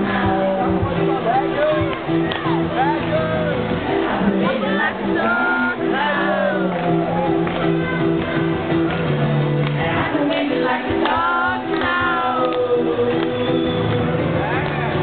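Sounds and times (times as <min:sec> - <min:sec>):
person singing live: 0:00.0 - 0:08.6, 0:09.7 - 0:15.0
pulsing band accompaniment: 0:00.0 - 0:15.0.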